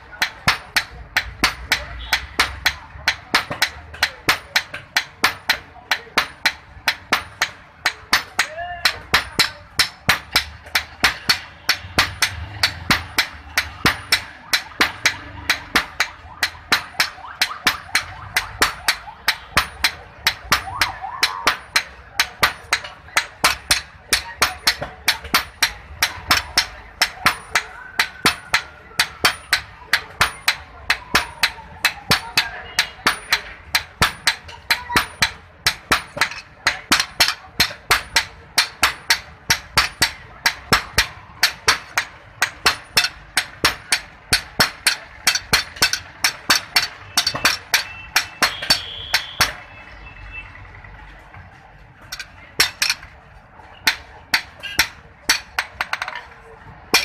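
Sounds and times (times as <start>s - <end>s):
hammer striking iron on anvil: 0.0s - 49.7s, 52.0s - 57.0s.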